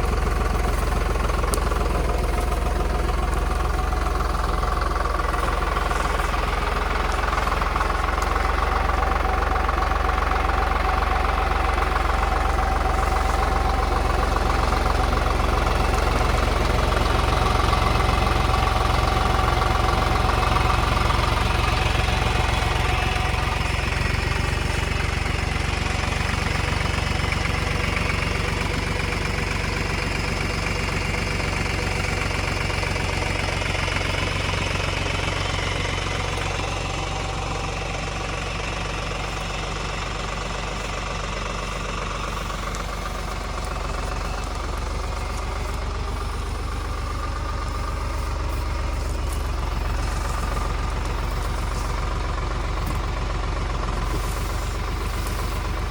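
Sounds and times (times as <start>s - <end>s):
tractor engine knocking clatter: 0.0s - 55.9s.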